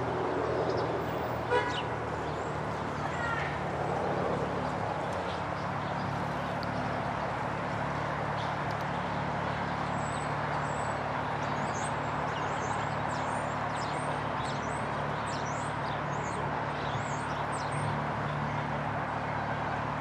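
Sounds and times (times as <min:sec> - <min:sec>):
diesel locomotives droning: 0:00.0 - 0:20.0
small birds chirping: 0:00.6 - 0:18.4.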